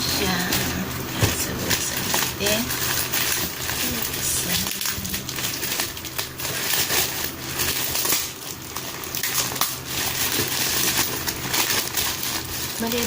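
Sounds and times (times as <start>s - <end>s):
packaging crinkling and rustling: 0.2s - 13.0s.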